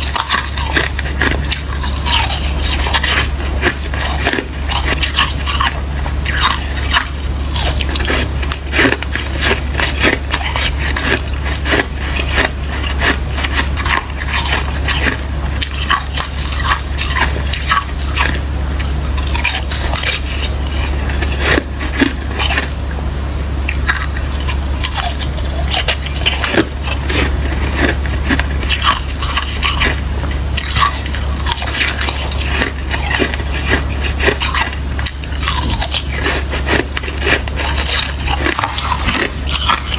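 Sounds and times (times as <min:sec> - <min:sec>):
chewing wet ice crunches: 0:00.0 - 0:22.8, 0:23.6 - 0:39.9
steady low hum: 0:00.0 - 0:39.9.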